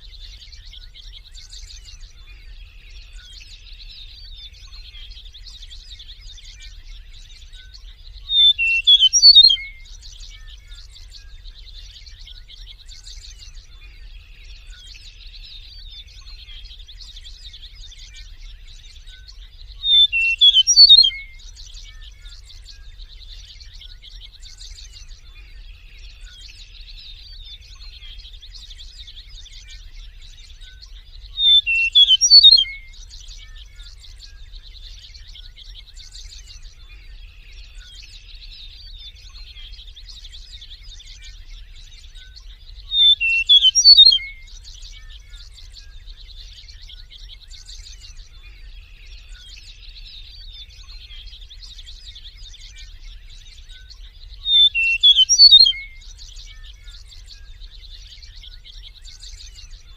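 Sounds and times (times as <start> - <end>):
meadowlark whistled song: 0.0 - 59.9.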